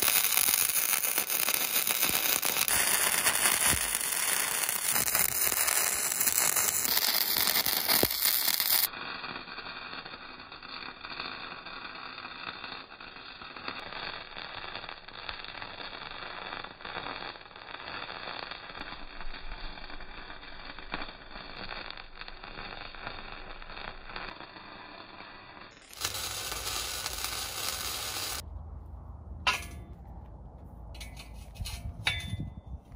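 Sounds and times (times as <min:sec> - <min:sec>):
welding arc crackling: 0:00.0 - 0:28.5.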